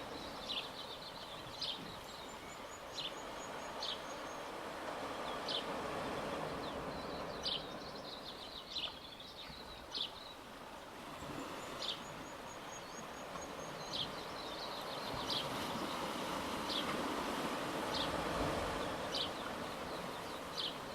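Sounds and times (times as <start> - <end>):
small waves washing: 0.0 - 9.0, 9.6 - 20.9
birds chirping: 0.0 - 20.9.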